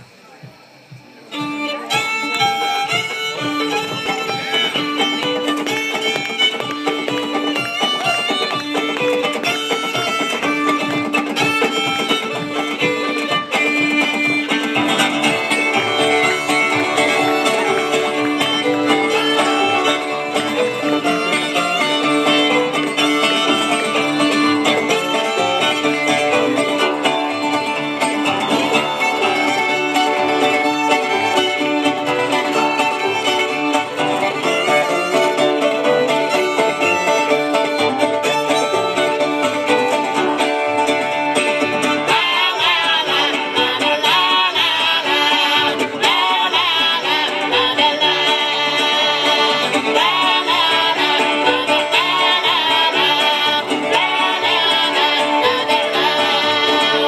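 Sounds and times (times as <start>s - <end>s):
fiddle melody: 0.0s - 57.0s
string band playing: 0.0s - 57.0s
strummed acoustic guitar: 1.1s - 57.0s.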